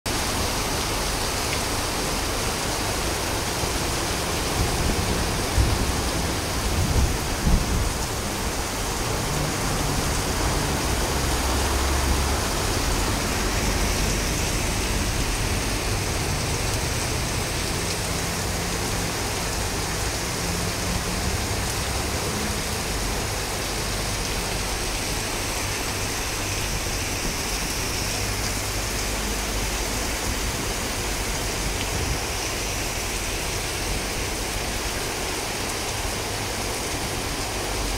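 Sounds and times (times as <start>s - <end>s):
heavy rain: 0.1s - 37.9s.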